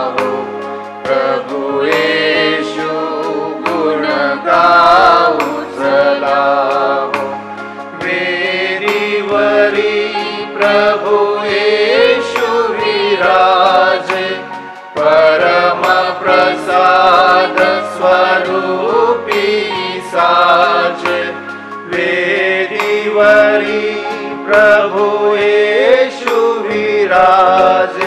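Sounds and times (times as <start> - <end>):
person singing a hymn: 0.0 - 28.0.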